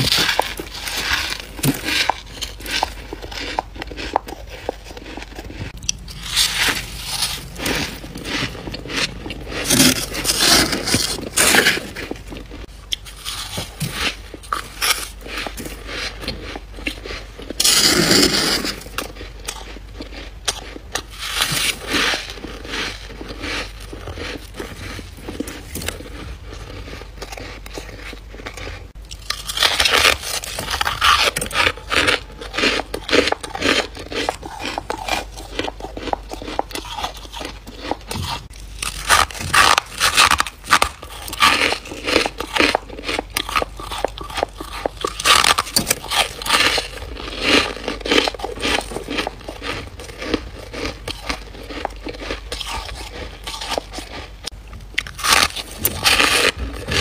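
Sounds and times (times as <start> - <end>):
chewing crunchy frost: 0.0 - 57.0.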